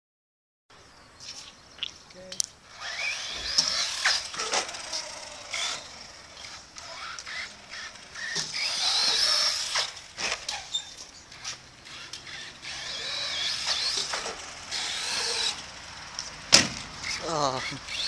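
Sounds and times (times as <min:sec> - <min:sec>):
small electric motor whining: 0:02.6 - 0:18.0.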